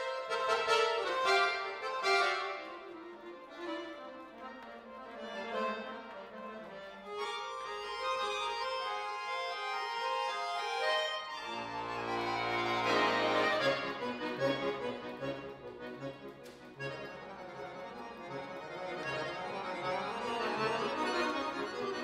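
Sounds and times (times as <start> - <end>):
accordion playing classical music: 0.0 - 22.0.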